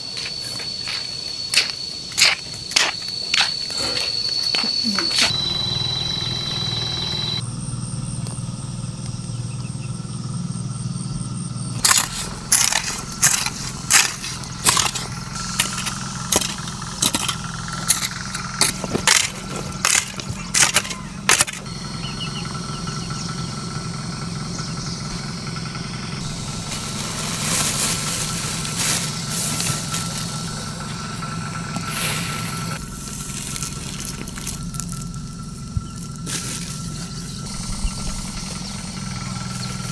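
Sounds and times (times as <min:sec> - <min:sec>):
small engine running: 0:01.4 - 0:39.9.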